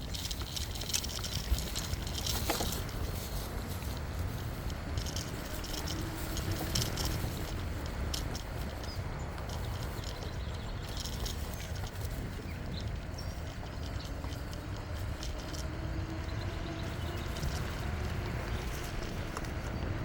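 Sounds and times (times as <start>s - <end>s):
bicycle clicks and rattles: 0.0s - 20.0s
wind and rolling tyres: 0.0s - 20.0s.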